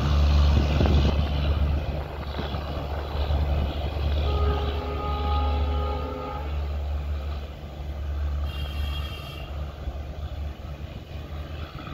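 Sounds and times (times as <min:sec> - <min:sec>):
diesel locomotive engine rumble: 0:00.0 - 0:11.9.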